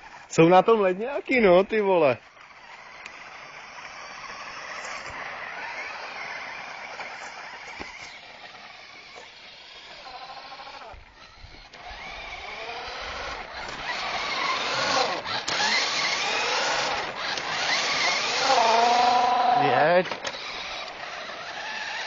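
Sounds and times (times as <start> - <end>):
toy car electric motor whining: 0.0 - 22.0.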